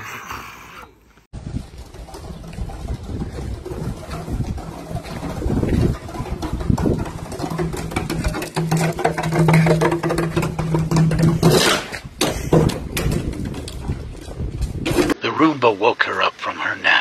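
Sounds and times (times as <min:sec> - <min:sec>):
plastic bottle scraping on asphalt: 0:01.4 - 0:15.2.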